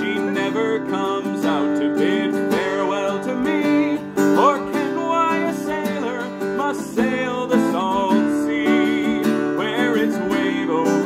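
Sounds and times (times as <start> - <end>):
man singing: 0.0 - 11.0
strummed acoustic guitar: 0.0 - 11.0.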